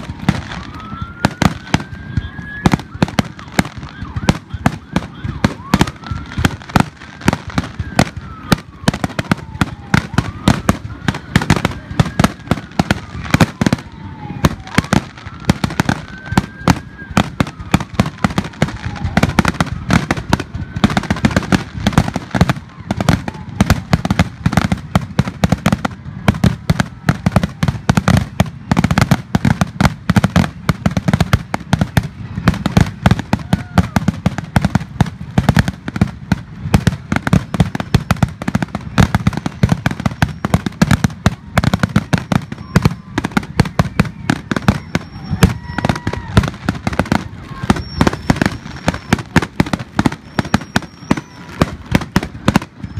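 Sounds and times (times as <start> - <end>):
fireworks bursts and bangs: 0.0 - 52.9.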